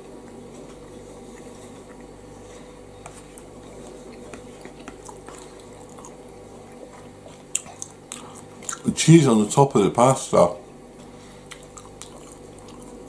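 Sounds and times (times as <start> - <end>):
man chewing: 0.0 - 9.0, 10.7 - 13.0
low room hum: 0.0 - 13.0.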